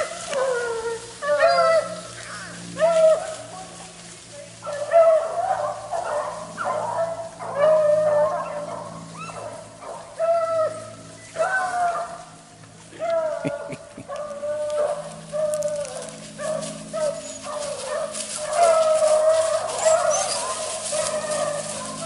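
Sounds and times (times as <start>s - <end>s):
dogs baying and howling: 0.0s - 4.0s, 4.6s - 22.0s
dry leaves crunching: 0.0s - 22.0s.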